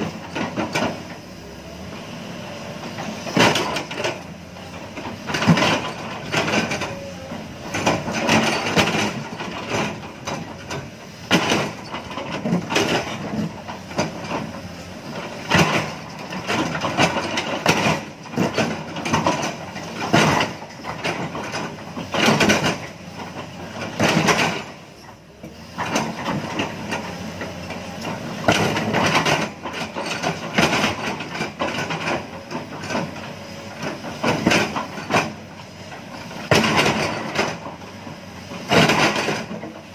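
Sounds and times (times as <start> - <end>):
diesel engine running: 0.0 - 39.9
falling earth: 0.0 - 39.9.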